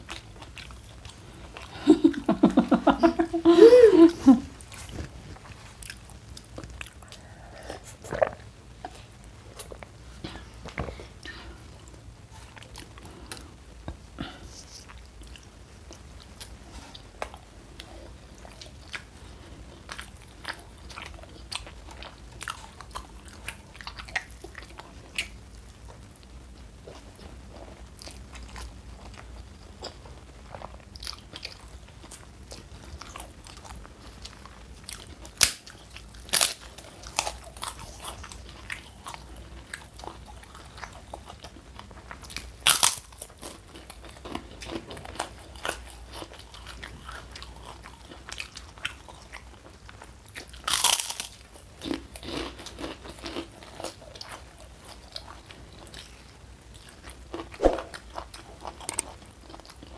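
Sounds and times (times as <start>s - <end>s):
person chewing food: 0.0s - 26.0s, 26.8s - 56.2s, 56.8s - 59.9s.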